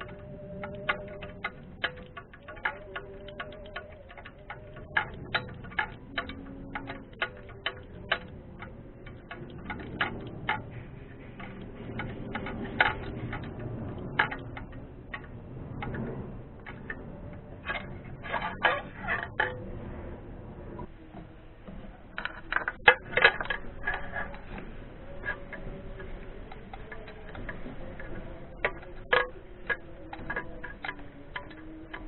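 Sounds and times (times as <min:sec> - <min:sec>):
hand tools clicking: 0:00.0 - 0:19.7, 0:21.8 - 0:32.0.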